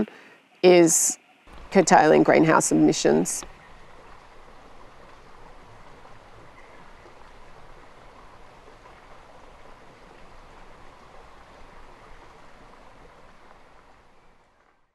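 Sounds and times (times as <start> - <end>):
rushing outdoor ambience: 1.5 - 14.8.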